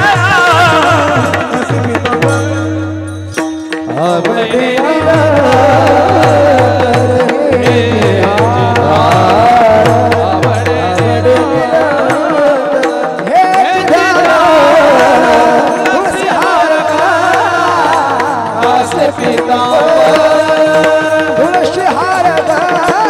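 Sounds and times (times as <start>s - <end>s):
man singing devotional melody: 0.0s - 23.0s.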